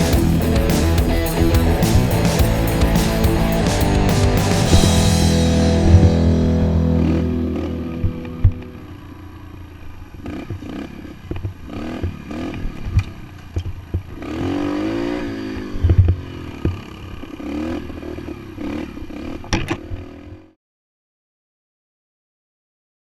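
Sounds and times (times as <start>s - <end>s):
dirt bike engine revving: 0.0s - 9.6s, 10.2s - 13.2s, 14.1s - 20.2s.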